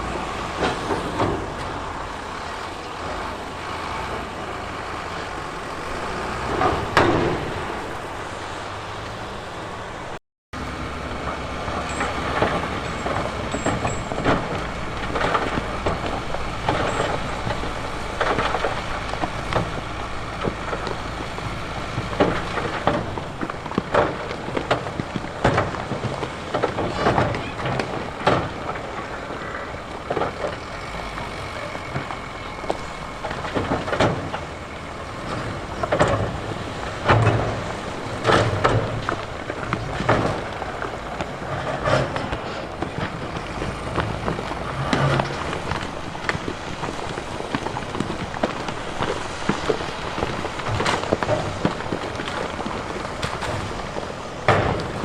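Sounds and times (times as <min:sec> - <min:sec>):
diesel earthmoving machinery: 0:00.0 - 0:55.0.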